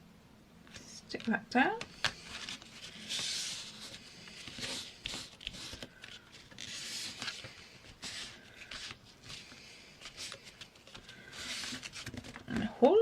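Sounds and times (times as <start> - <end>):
paper rustling and rubbing: 1.2 - 12.5.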